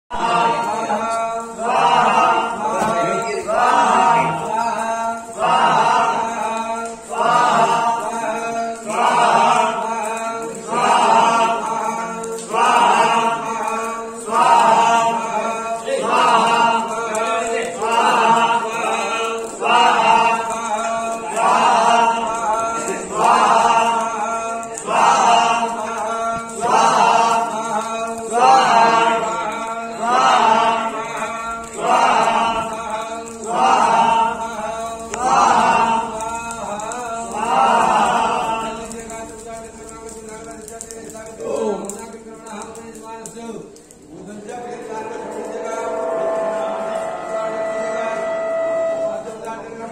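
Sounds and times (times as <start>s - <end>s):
men chanting mantras: 0.1s - 49.9s.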